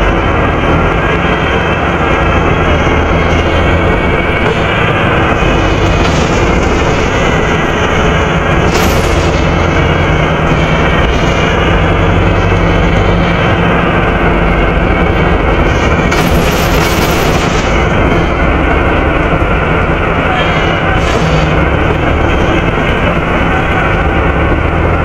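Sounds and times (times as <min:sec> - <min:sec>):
bus engine and cooling fan: 0:00.0 - 0:25.0.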